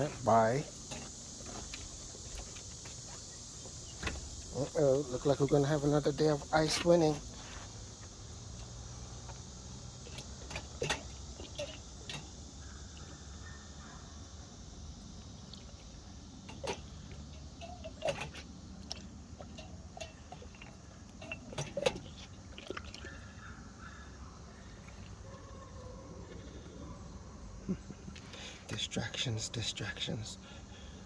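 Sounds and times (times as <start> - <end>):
small water sounds: 0.0 - 26.9
insect drone: 0.0 - 31.0.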